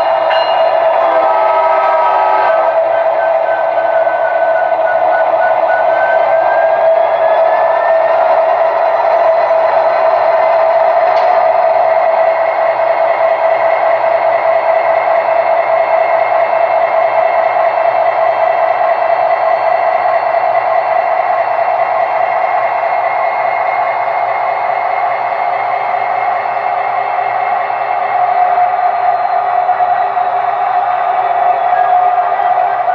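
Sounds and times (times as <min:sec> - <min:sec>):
model locomotive diesel engine sound: 0:00.0 - 0:32.9.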